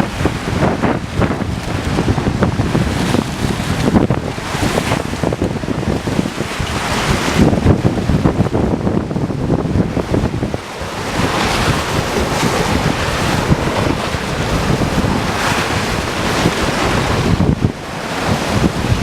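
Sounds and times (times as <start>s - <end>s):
floodwater rushing: 0.0s - 19.0s
wind buffeting microphone: 0.0s - 19.0s.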